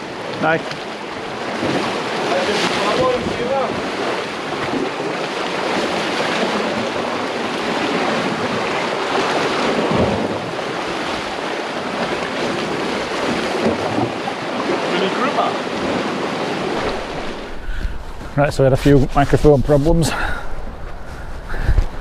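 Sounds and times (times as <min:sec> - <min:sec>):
waves breaking against rocks: 0:00.0 - 0:20.9
wind on microphone: 0:01.4 - 0:14.7, 0:15.7 - 0:22.0.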